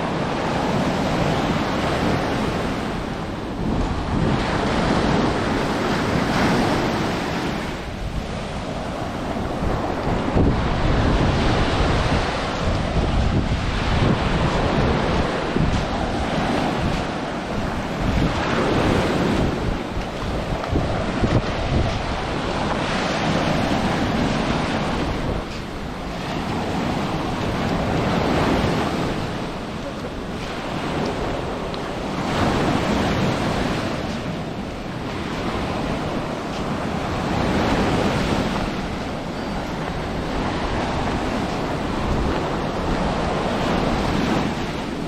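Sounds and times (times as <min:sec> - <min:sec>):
surf breaking on shore: 0:00.0 - 0:45.0
wind buffeting microphone: 0:00.0 - 0:45.0.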